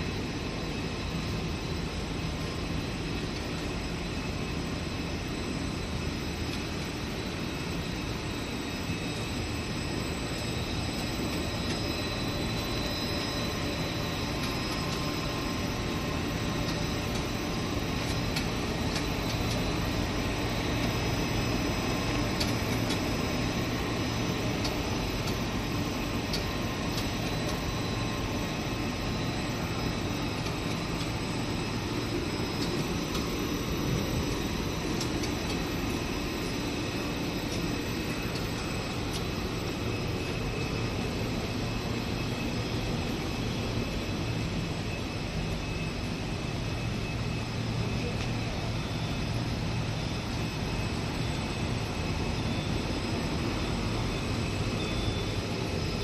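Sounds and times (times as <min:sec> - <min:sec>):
machine hum with held tones: 0:00.0 - 0:56.0.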